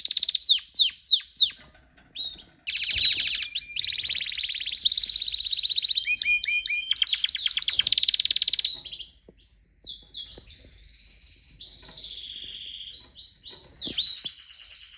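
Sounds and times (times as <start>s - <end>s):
canary singing: 0.0s - 14.9s.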